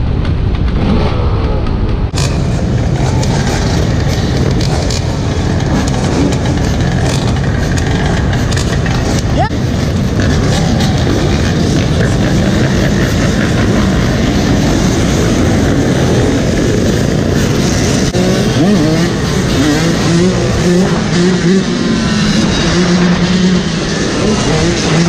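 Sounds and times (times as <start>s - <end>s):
dirt bike engines revving: 0.0s - 25.0s
dirt bike accelerating through gears: 0.4s - 25.0s.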